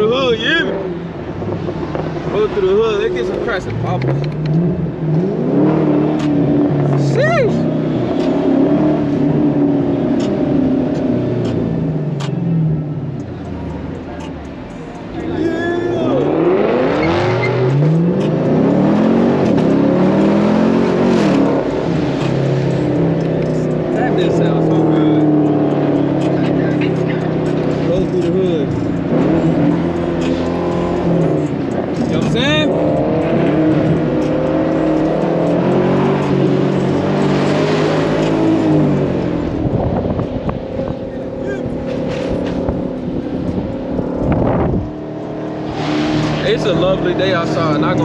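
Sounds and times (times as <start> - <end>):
loud car engine accelerating: 0.0 - 14.4, 15.0 - 48.0.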